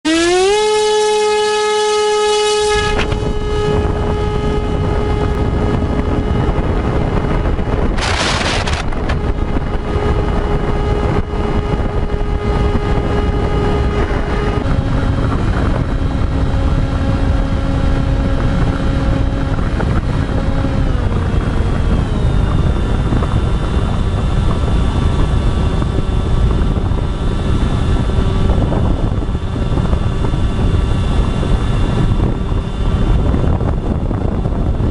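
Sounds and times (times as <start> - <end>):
electric motor whining: 0.1 - 34.9
wind rushing: 2.2 - 34.9.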